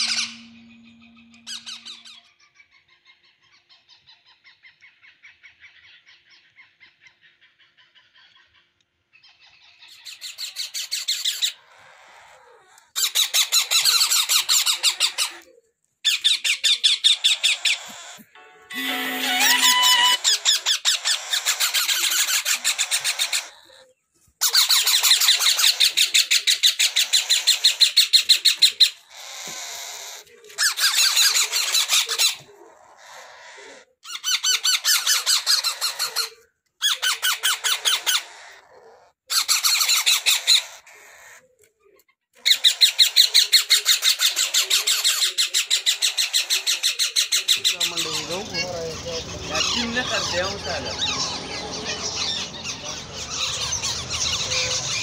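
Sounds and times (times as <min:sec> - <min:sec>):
parrot chicks begging calls: 0:00.0 - 0:08.6, 0:09.2 - 0:41.4, 0:42.0 - 0:55.0.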